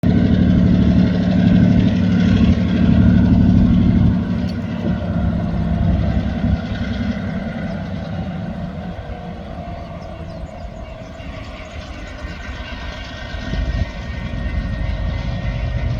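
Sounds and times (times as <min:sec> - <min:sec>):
diesel locomotive droning: 0:00.0 - 0:15.9.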